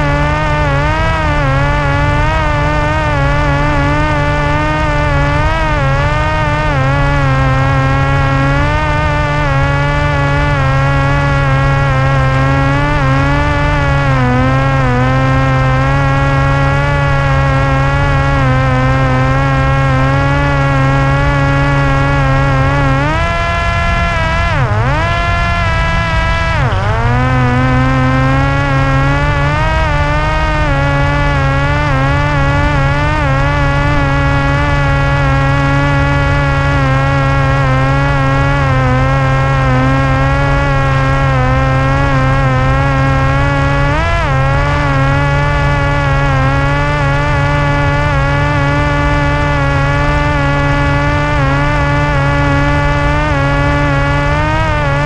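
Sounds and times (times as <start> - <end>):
drone motor and propeller buzzing: 0.0 - 55.0.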